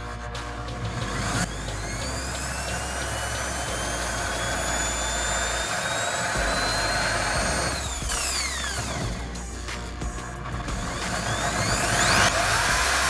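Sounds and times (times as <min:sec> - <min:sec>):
drill grinding ceramic tile: 0:00.0 - 0:13.0.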